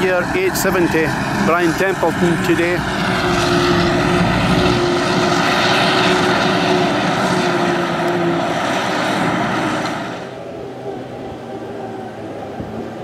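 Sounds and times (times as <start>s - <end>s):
forage harvester machine drone: 0.0s - 13.0s.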